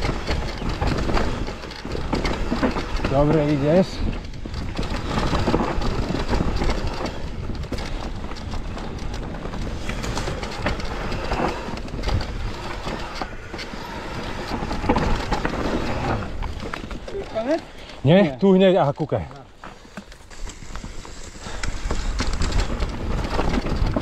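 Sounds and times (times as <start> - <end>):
mountain bike clattering over rocks: 0.0 - 24.0.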